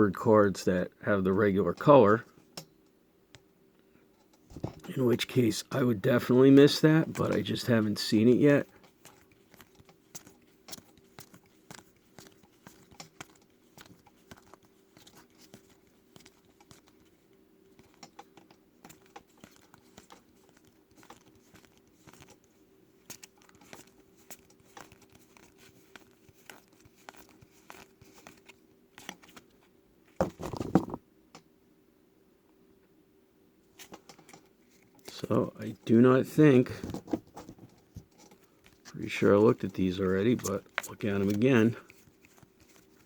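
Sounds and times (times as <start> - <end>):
card handling rustle: 4.9 - 31.0, 33.7 - 43.0.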